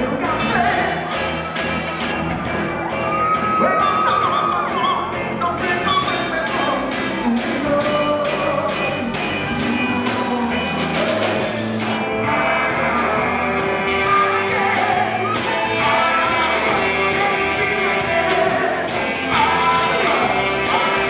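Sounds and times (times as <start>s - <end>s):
man singing: 0.0s - 1.2s, 3.6s - 21.0s
drums and cymbals: 0.0s - 21.0s
live rock band: 0.0s - 21.0s.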